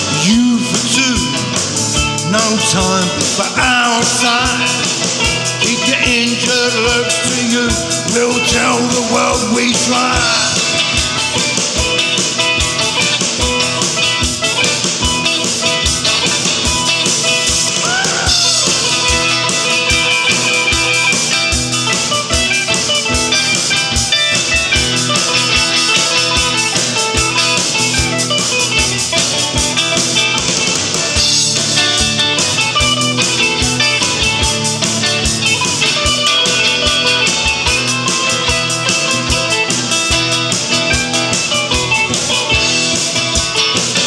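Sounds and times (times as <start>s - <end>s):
cigar box guitar: 0.0s - 44.0s
guitar: 0.0s - 44.0s.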